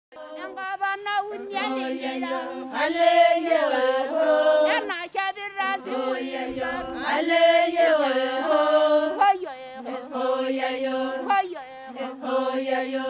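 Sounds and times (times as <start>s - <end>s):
voices chanting in harmony: 0.2s - 13.0s.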